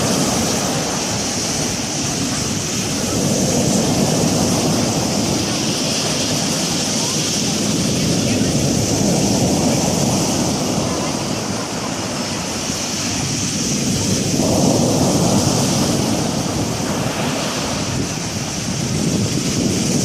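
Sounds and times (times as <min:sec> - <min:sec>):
waves rushing and breaking: 0:00.0 - 0:20.0
wind blowing over microphone: 0:00.0 - 0:20.0.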